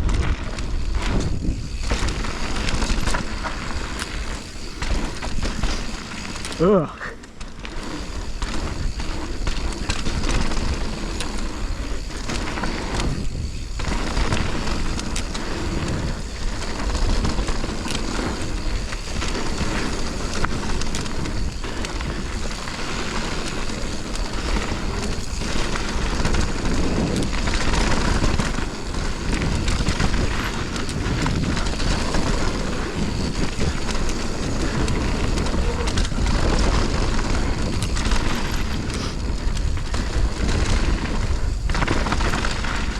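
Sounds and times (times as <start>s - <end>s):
wind rushing over microphone: 0.0s - 6.8s, 7.7s - 42.9s
bike knocks and rattles: 0.0s - 42.9s
bike tyre noise: 0.0s - 42.9s.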